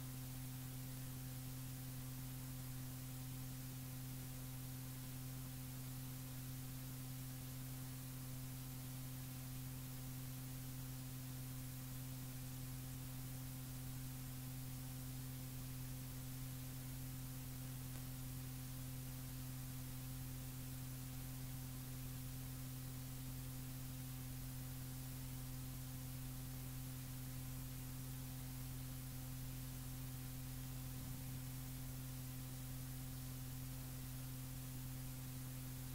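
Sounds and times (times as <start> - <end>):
low electrical hum: 0.0 - 35.9
tape hiss: 0.0 - 35.9.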